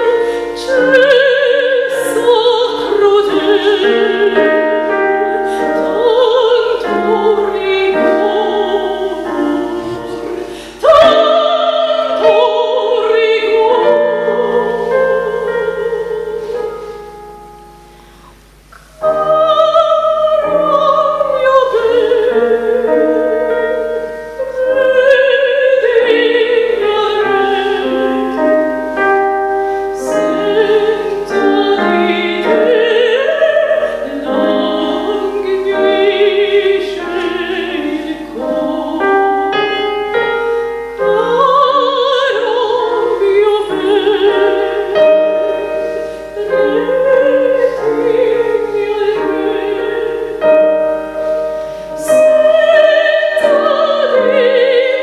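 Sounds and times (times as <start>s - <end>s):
woman singing operatically: 0.0s - 17.0s, 19.0s - 29.0s, 30.0s - 51.0s, 52.0s - 55.0s
digital piano: 0.0s - 55.0s.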